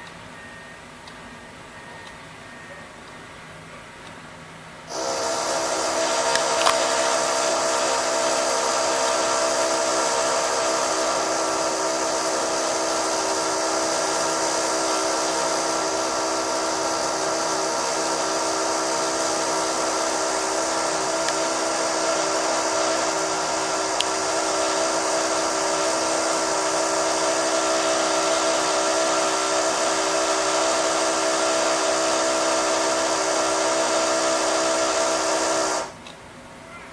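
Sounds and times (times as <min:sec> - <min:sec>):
power drill whining: 0:04.9 - 0:36.0.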